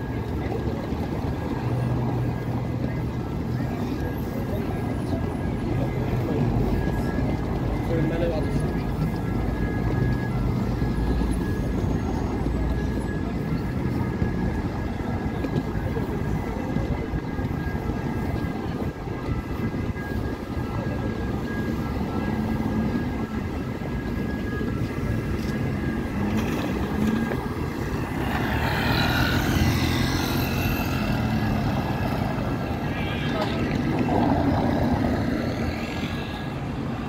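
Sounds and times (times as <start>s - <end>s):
cars and scooters passing on cobbles: 0.0s - 37.0s
wavering engine-like sound: 0.0s - 37.0s.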